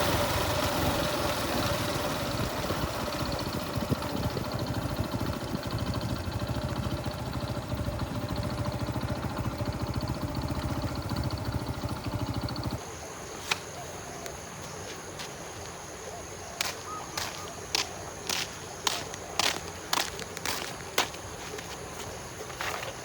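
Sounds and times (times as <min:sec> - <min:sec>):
small engine running: 0:00.0 - 0:12.8, 0:17.1 - 0:23.0.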